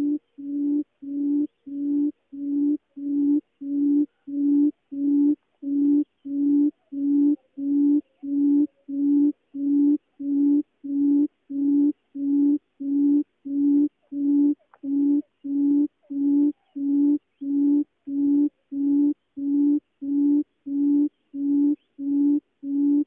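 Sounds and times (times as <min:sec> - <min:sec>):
bird low hooting call: 0:00.0 - 0:23.0.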